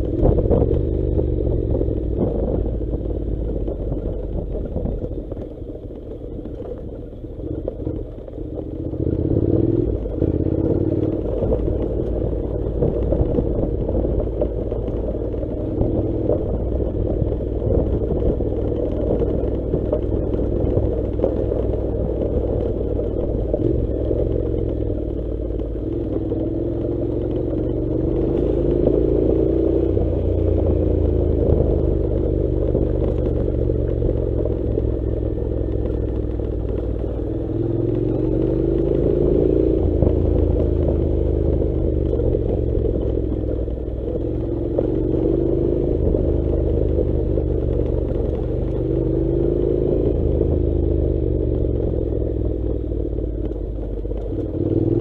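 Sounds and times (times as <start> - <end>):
motorcycle engine revving: 7.4 - 55.0.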